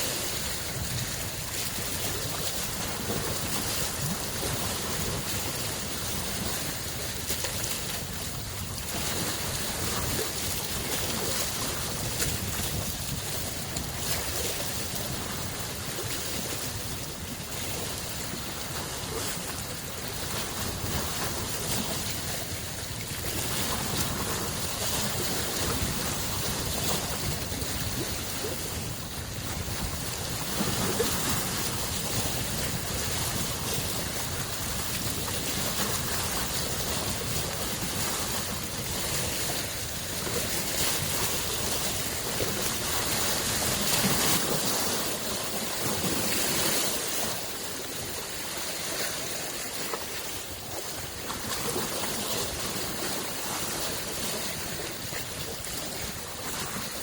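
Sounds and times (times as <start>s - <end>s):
small lake waves washing in: 0.0s - 57.0s.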